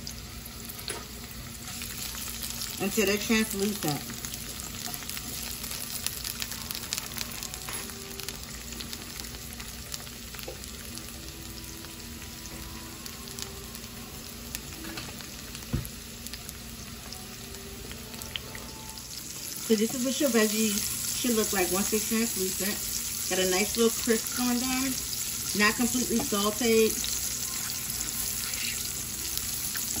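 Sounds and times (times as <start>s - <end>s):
peppers sizzling in oil: 0.0s - 30.0s.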